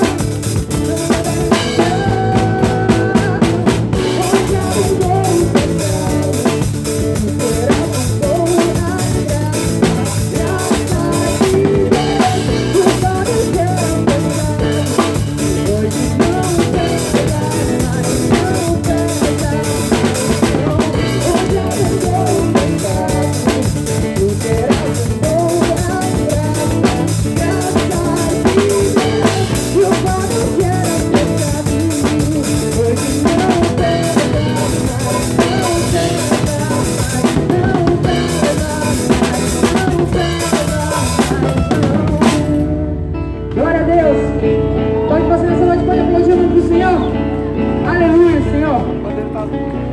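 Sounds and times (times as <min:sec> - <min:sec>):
drum kit groove: 0:00.0 - 0:43.8
live band playing: 0:00.0 - 0:49.9.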